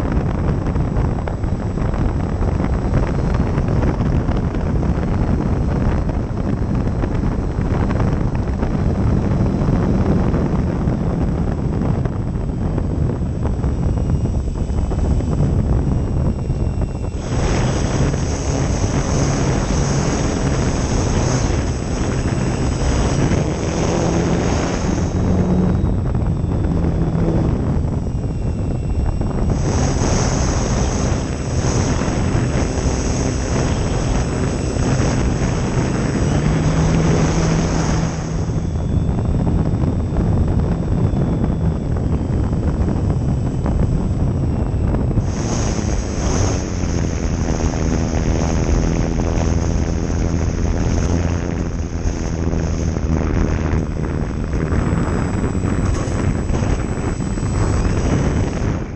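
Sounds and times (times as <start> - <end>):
electric motor and propeller hum: 0.0 - 58.9
high whine: 0.0 - 58.9
wind buffeting camera: 0.0 - 58.9.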